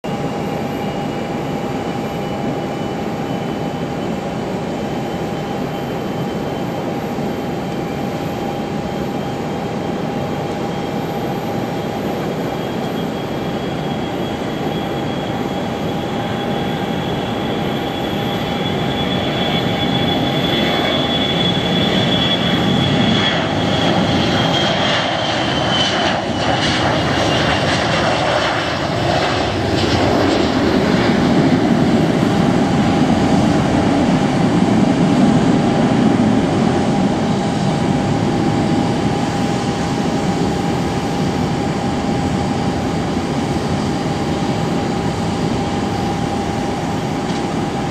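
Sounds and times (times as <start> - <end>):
jet engines whining and roaring: 0.0 - 47.9.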